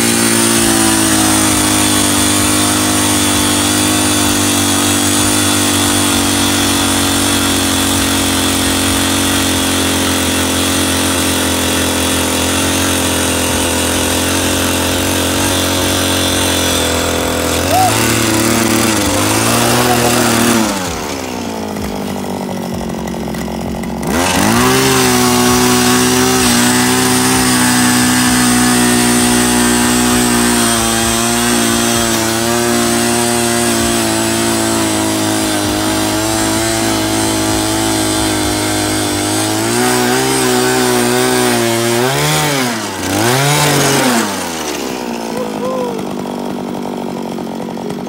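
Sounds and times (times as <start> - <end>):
small petrol engine revving: 0.0 - 48.0.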